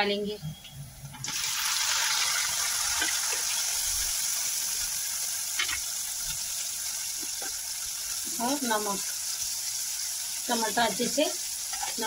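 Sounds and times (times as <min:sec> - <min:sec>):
tomatoes sizzling in hot oil: 0:01.2 - 0:12.0.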